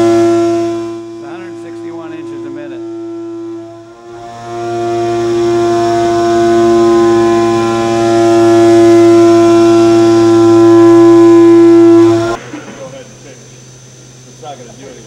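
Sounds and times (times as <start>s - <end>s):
milling machine cutting metal whine: 0.0s - 15.0s.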